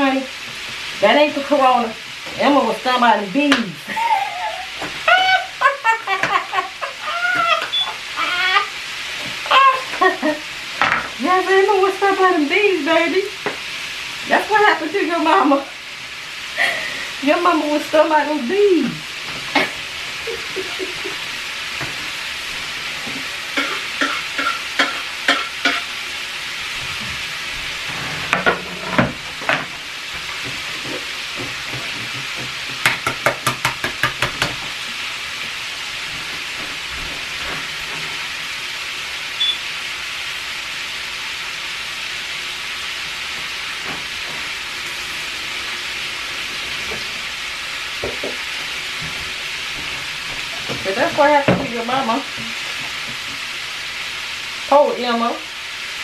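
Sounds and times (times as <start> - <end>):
chicken sizzling in pan: 0.0 - 56.0.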